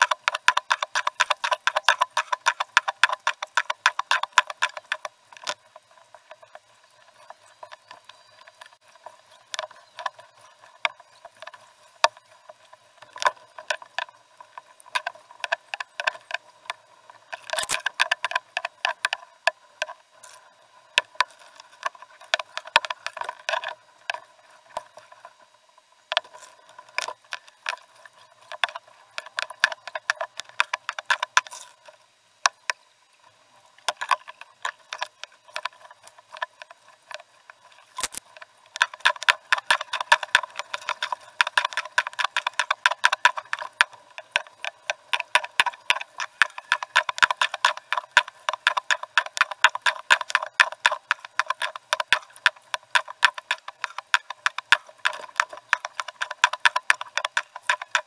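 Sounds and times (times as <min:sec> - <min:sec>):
canoe paddle strokes: 0:00.0 - 0:58.0.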